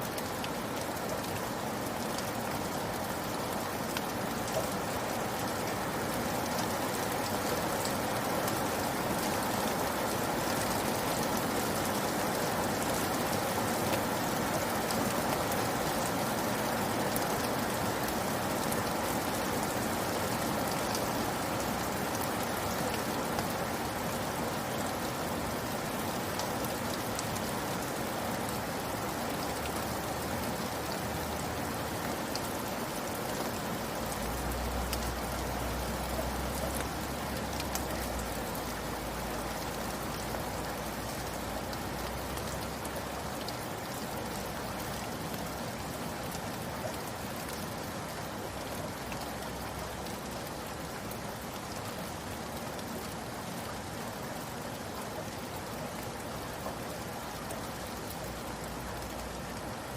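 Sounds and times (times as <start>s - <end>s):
raindrops pattering on a surface: 0.0s - 59.9s
steady rain hiss: 0.0s - 59.9s.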